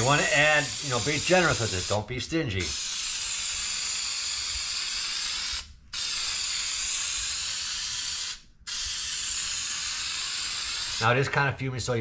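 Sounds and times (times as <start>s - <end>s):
aerosol can spraying hiss: 0.0s - 11.1s.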